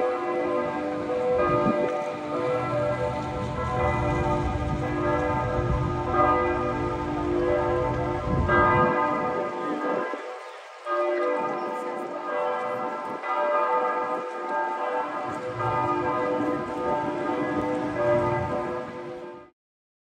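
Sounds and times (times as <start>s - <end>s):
church bells pealing: 0.0s - 19.5s.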